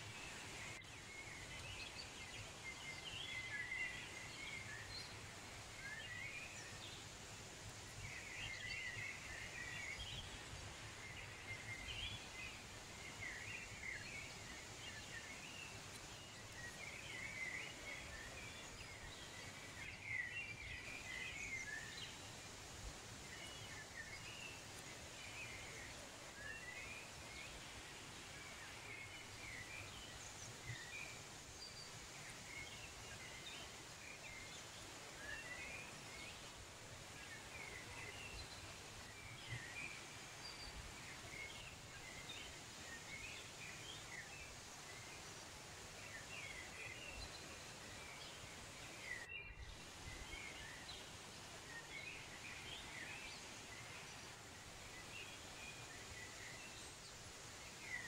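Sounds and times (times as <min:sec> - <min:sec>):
faint background hiss: 0:00.0 - 0:58.0
small birds chirping: 0:00.0 - 0:58.0.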